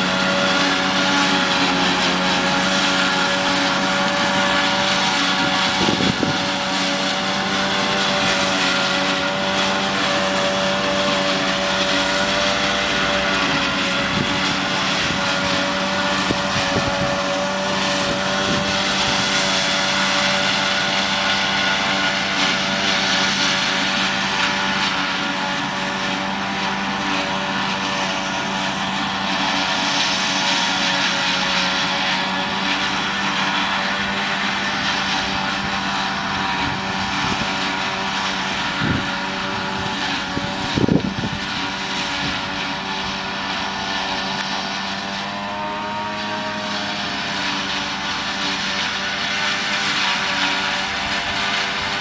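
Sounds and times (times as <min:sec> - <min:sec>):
harvester chopping rush: 0:00.0 - 0:52.0
tractor engine drone: 0:00.0 - 0:52.0.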